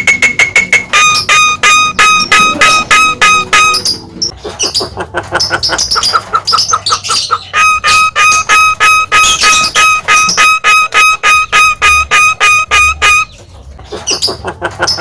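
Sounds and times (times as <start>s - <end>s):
bird chattering chirps: 0.0s - 15.0s.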